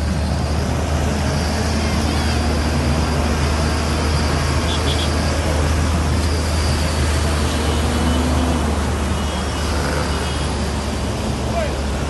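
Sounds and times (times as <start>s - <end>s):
car driving rumble: 0.0s - 12.0s
road and traffic noise: 0.0s - 12.0s.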